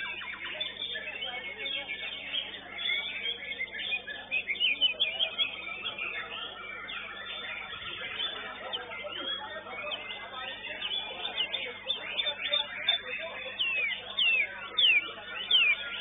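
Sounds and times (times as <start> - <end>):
bird chirping and whistling: 0.0 - 16.0.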